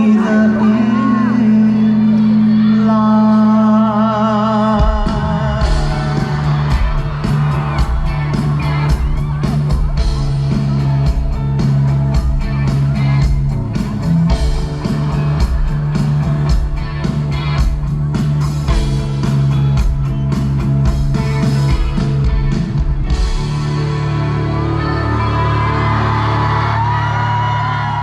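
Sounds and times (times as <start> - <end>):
live band with guitar and drums: 0.0 - 28.0.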